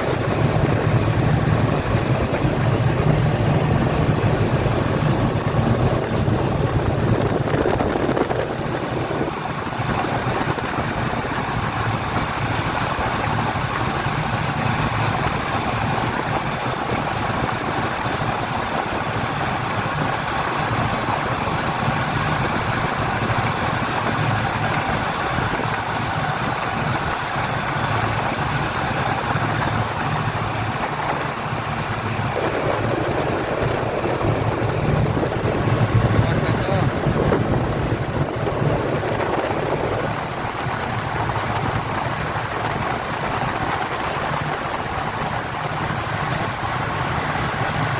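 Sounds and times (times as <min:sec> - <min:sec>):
speedboat engine running: 0:00.0 - 0:47.9.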